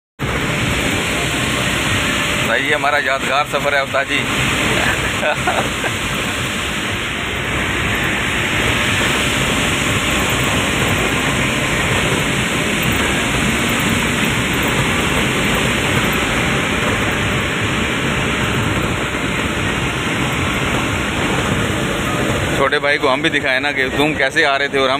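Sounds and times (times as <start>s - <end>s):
truck cab road and engine roar: 0.2s - 24.9s.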